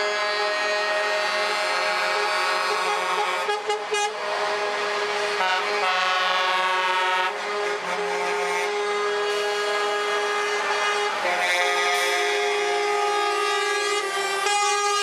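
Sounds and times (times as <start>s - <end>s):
truck air horns: 0.0s - 15.0s.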